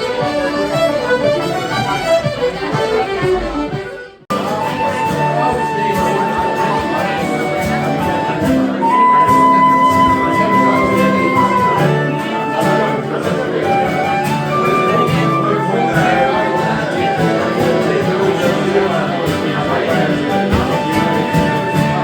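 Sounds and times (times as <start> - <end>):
fiddle melody: 0.0 - 22.0
guitar accompaniment: 0.0 - 22.0.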